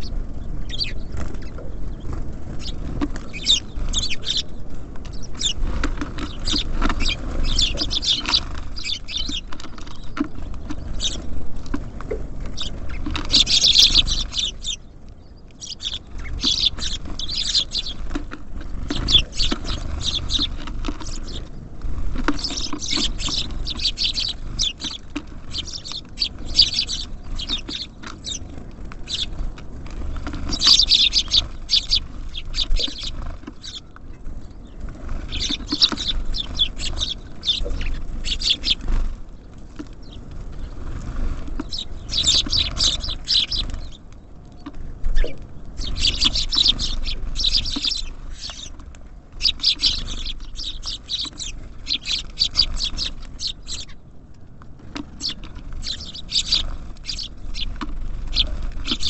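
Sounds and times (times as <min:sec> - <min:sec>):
low steady rumble: 0:00.0 - 0:59.0
songbirds chirping: 0:00.0 - 0:59.0.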